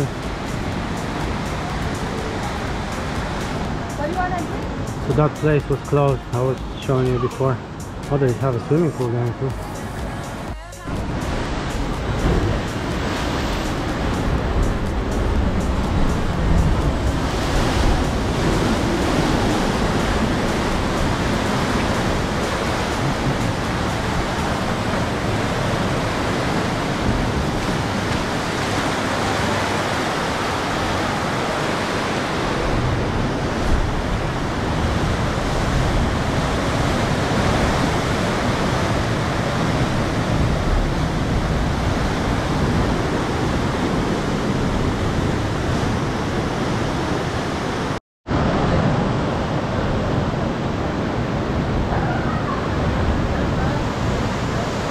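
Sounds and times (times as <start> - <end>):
ocean surf breaking on shore: 0.0 - 54.9.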